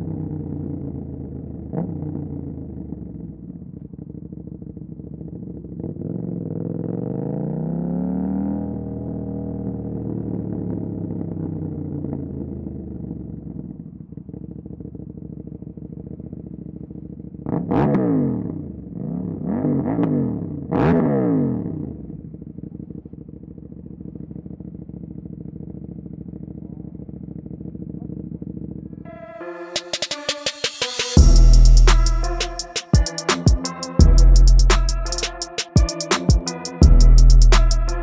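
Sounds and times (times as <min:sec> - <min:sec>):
motorcycle engine idling and revving: 0:00.0 - 0:29.4, 0:30.4 - 0:38.0.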